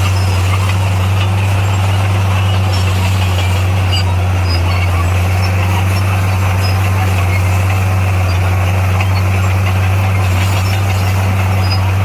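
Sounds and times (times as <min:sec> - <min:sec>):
diesel engine running steadily: 0:00.0 - 0:12.0.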